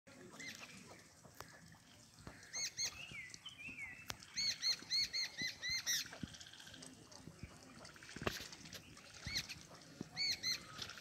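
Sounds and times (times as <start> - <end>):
bird chirping: 0.1 - 11.0.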